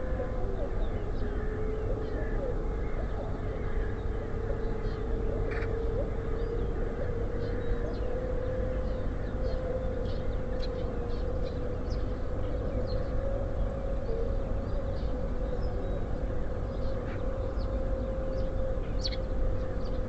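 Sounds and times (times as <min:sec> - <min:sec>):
mid-pitched hum: 0:00.0 - 0:20.0
songbirds chirping: 0:00.0 - 0:20.0.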